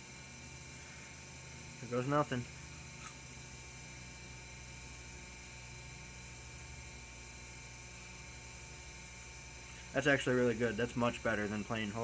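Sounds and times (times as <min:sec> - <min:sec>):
electrical hum with buzz: 0:00.0 - 0:12.0.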